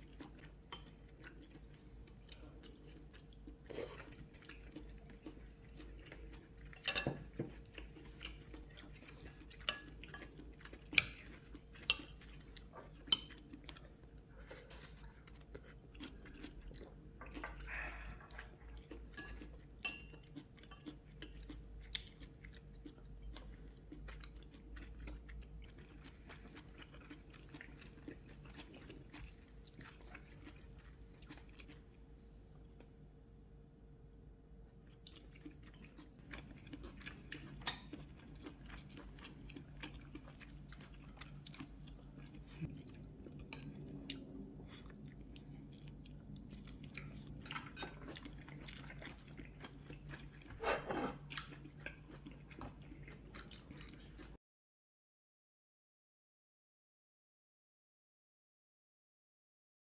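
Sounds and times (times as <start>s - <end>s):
people chewing food: 0.0s - 33.1s, 34.8s - 54.4s
faint steady hum: 0.0s - 50.6s.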